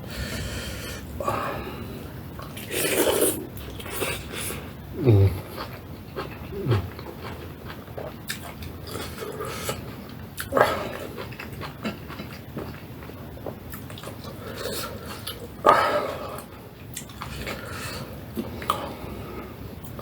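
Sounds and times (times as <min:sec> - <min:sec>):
close-up chewing: 0:02.4 - 0:19.0.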